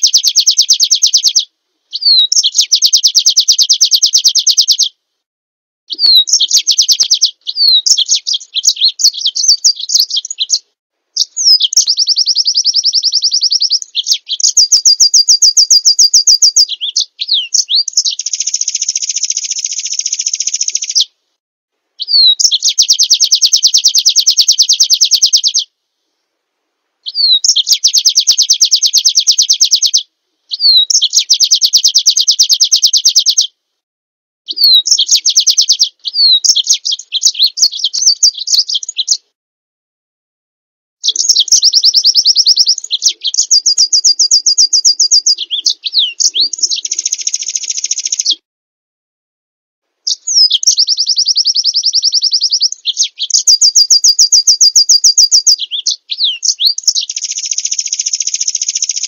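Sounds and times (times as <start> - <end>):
bird singing rapid trills: 0.0 - 4.9, 5.9 - 10.6, 11.2 - 21.1, 22.0 - 25.7, 27.0 - 30.0, 34.5 - 39.2, 41.0 - 48.4, 50.1 - 59.0.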